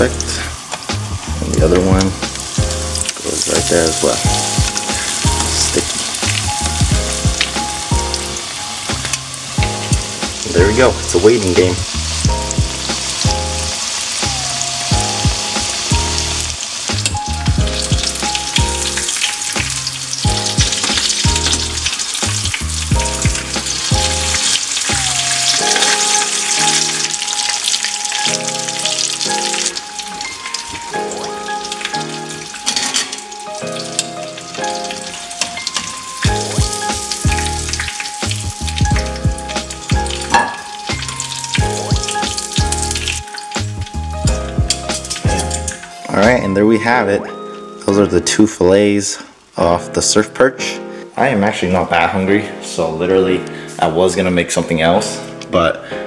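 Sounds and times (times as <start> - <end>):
fish deep-frying in oil: 0.0 - 46.4
background music: 0.0 - 56.0.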